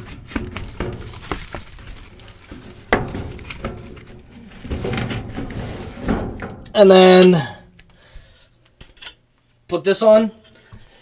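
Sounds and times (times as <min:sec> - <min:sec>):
filter rustling and clicking: 0:00.0 - 0:09.2.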